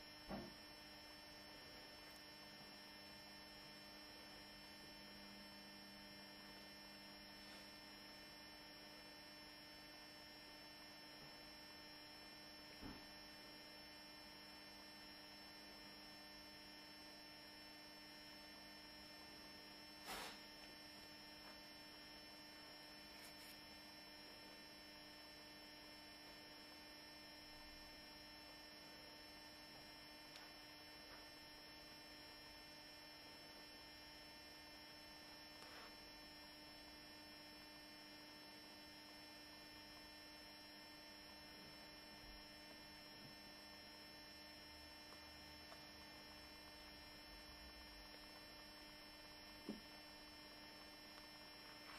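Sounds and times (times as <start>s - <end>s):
faint electrical hum: 0.0s - 51.9s.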